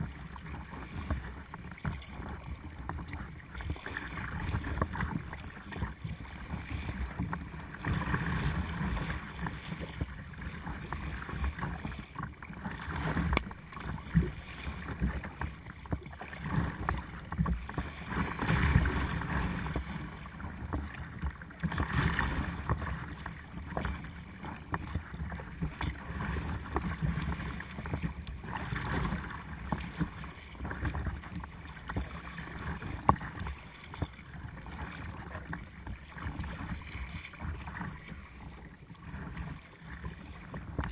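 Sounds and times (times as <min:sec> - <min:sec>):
water rushing against kayak hull: 0:00.0 - 0:40.9.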